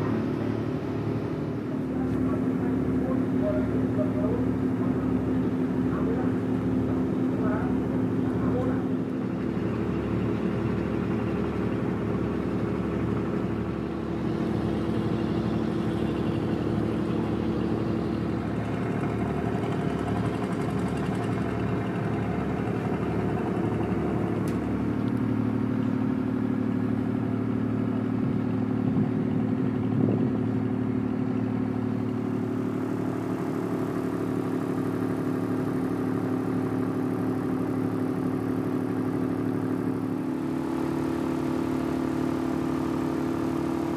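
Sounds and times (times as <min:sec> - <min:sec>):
diesel engines humming: 0:00.0 - 0:43.9.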